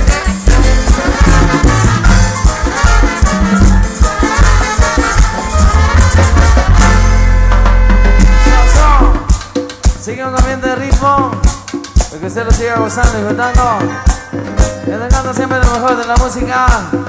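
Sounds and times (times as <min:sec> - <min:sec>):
live latin dance band: 0:00.0 - 0:17.0.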